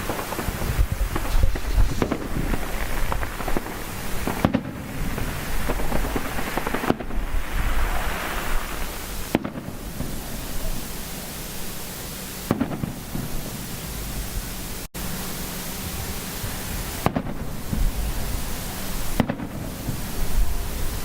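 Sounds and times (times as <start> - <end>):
constant crackle and rumble: 0.0 - 21.0
fireworks popping and cracking: 0.0 - 21.0.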